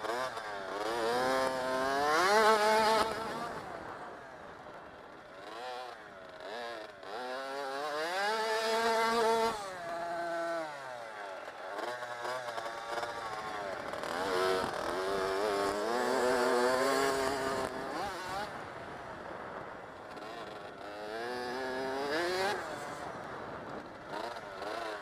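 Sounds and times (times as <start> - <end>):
dirt bike engine revving: 0.0 - 4.4, 5.3 - 25.0.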